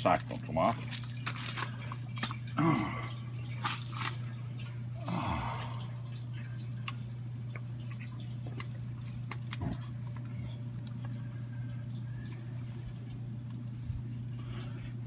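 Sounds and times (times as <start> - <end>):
liquid dripping: 0.0 - 13.8.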